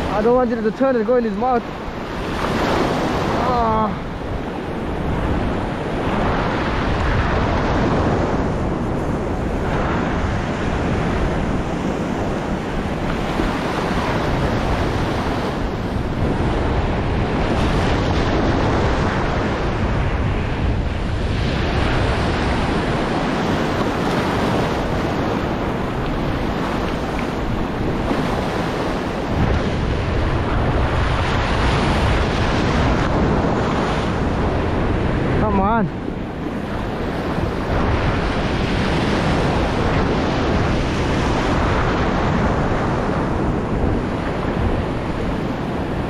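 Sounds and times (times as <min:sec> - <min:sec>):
ocean surf breaking: 0:00.0 - 0:46.0
wind buffeting microphone: 0:00.0 - 0:46.0.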